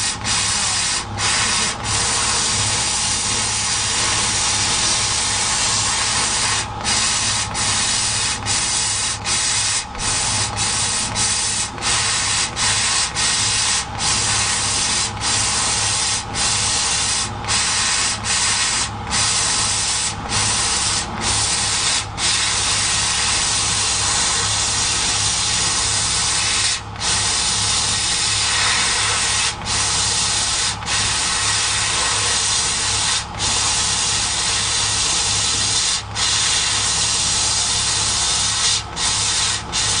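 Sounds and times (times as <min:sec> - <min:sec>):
laser cutter hiss: 0:00.0 - 0:40.0.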